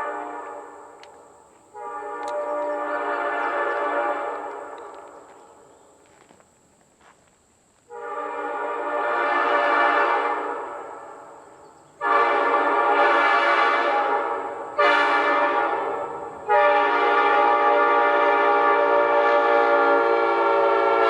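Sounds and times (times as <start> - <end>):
locomotive air horn blasts: 0.0 - 1.1, 1.7 - 5.3, 7.9 - 21.0.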